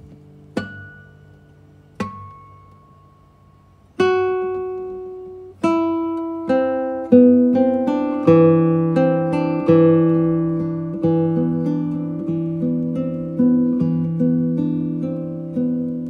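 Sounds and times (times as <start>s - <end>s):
plucked string instrument notes: 0.0s - 16.0s.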